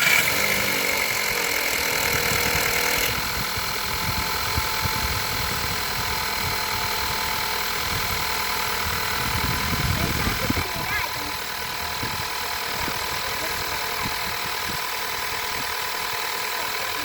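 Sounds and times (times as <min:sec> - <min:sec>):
car engine idling: 0:00.0 - 0:17.0
engine rattle: 0:00.0 - 0:17.0.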